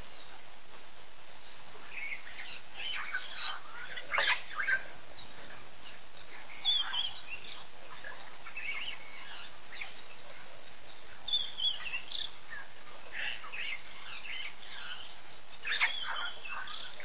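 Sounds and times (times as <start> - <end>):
birds chirping and calling: 0.0 - 17.0
steady background hiss: 0.0 - 17.0.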